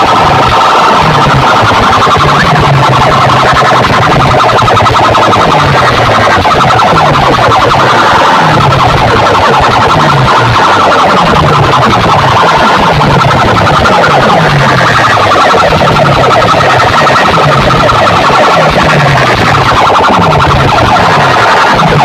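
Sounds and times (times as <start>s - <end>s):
distorted loudspeaker music: 0.0s - 22.0s.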